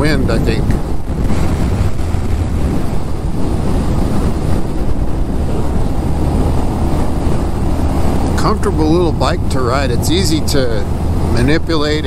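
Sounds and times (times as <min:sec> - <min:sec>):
motorcycle engine humming: 0:00.0 - 0:12.0
wind buffeting microphone: 0:00.0 - 0:12.0.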